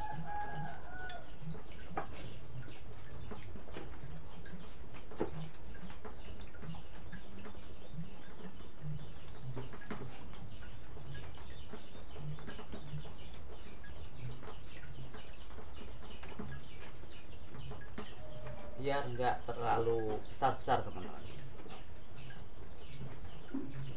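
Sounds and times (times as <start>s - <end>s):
chickens and birds calling: 0.0s - 23.9s.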